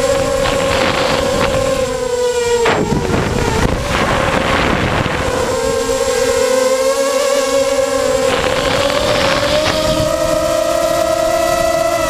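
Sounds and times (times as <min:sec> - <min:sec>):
drone motors whining: 0:00.0 - 0:12.0
wind on microphone: 0:00.0 - 0:12.0.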